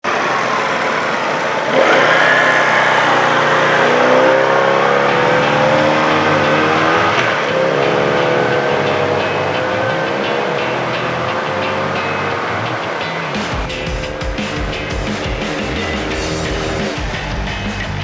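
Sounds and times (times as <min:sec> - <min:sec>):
small motorcycle engine running: 0:00.1 - 0:18.0.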